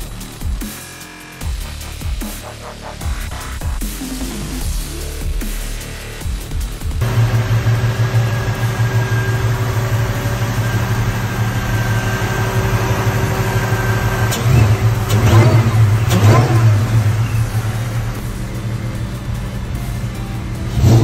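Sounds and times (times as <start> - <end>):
engine revving: 0.0 - 21.0
supercharged car engine idling: 1.2 - 21.0.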